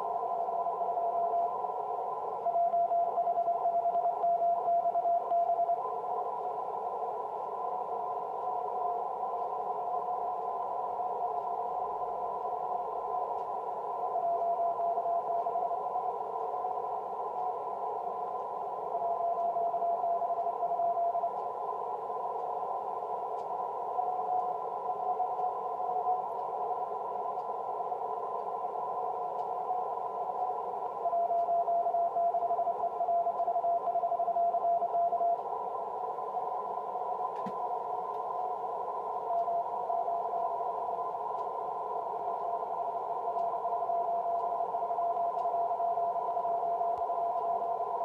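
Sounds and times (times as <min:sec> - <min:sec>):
weak morse code tone: 0:00.0 - 0:06.2, 0:07.7 - 0:48.0
radio band hiss: 0:05.9 - 0:48.0.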